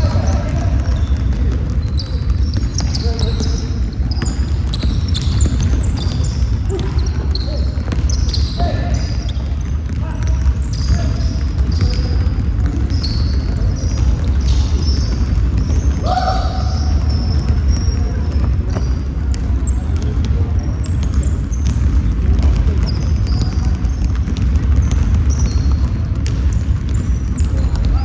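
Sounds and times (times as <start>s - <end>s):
basketball bouncing: 0.0s - 28.0s
sneakers squeaking on floor: 0.0s - 28.0s.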